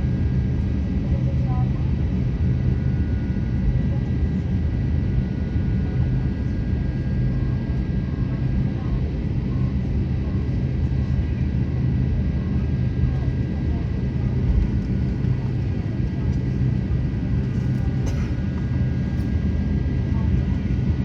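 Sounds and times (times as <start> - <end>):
airliner cabin rumble: 0.0 - 21.0
jet engine whine: 0.0 - 21.0.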